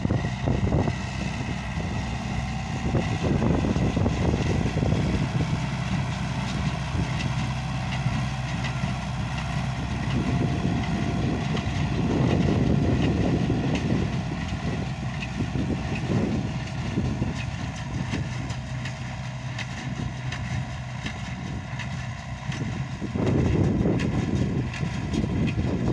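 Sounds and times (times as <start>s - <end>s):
tractor diesel engine running: 0.0s - 25.9s
baler clatter: 0.1s - 25.9s.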